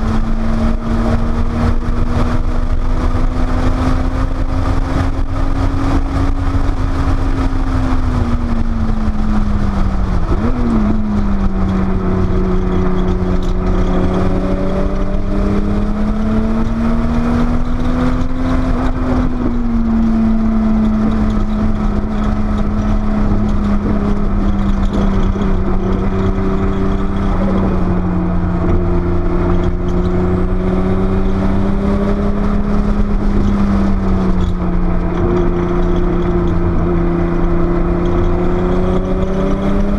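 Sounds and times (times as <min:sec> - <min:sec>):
sports car engine running hard: 0:00.0 - 0:39.9
steady low rumble: 0:03.9 - 0:39.0.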